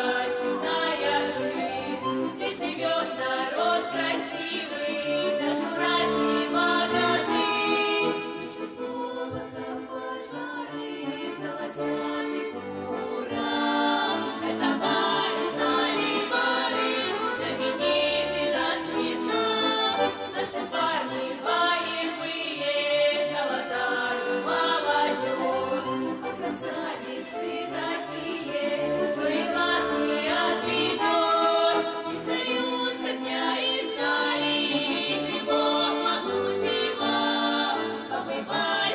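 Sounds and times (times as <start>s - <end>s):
accordion: 0.0s - 38.9s
group singing folk song in chorus: 0.0s - 38.9s.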